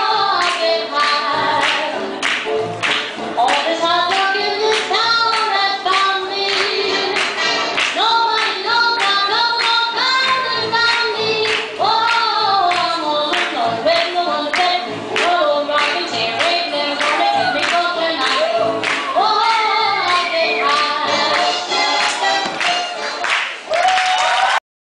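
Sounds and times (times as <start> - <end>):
up-tempo dance music with singing: 0.0 - 22.8.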